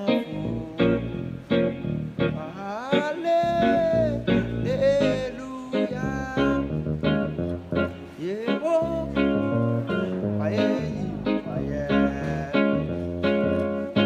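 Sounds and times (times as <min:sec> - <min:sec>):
person singing: 0:00.0 - 0:07.4, 0:08.0 - 0:14.0
guitar playing bass line and chords: 0:00.0 - 0:14.0.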